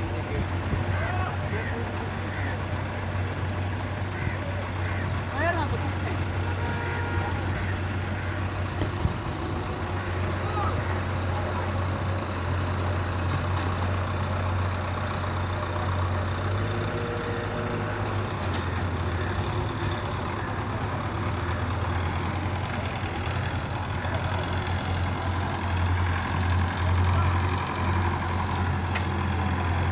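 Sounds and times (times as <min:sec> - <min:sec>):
tractor diesel engine droning: 0:00.0 - 0:29.9.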